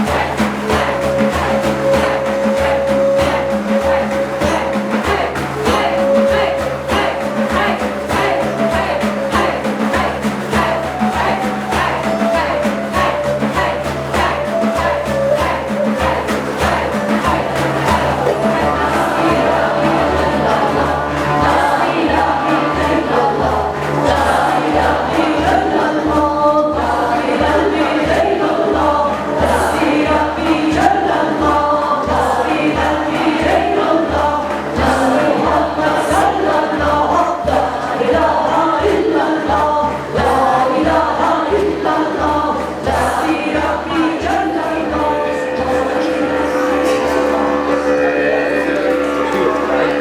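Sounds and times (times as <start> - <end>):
low drumbeat: 0.0 - 50.0
many voices singing: 0.0 - 50.0.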